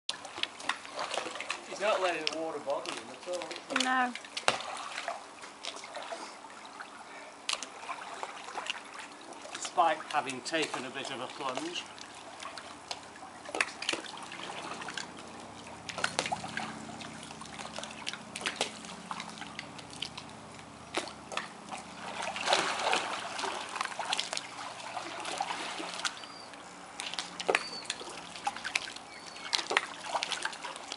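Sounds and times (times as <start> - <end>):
pool water sloshing and trickling: 0.1 - 30.9
sharp water splashes: 0.1 - 30.9.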